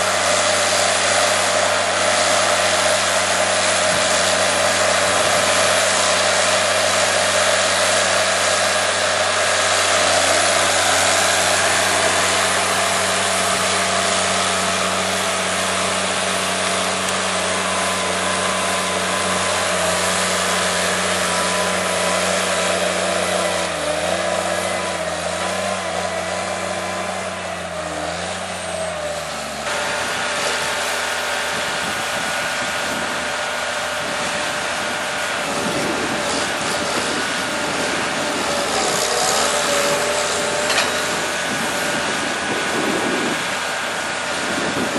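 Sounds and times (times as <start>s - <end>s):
diesel engine under load: 0.0s - 44.9s
machine drone: 0.0s - 44.9s.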